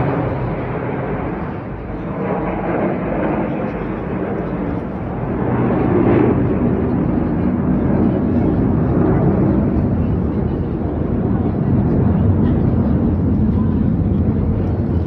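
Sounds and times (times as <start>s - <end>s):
jet engines rumbling overhead: 0.0s - 15.0s.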